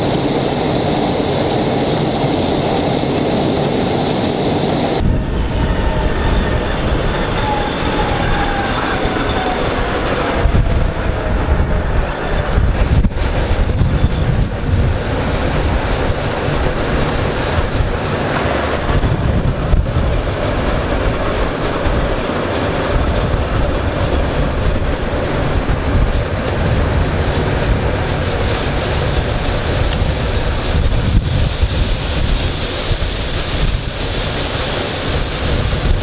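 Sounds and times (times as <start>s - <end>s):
heavy engine rumbling: 0.0s - 36.0s
wind buffeting microphone: 0.0s - 36.0s.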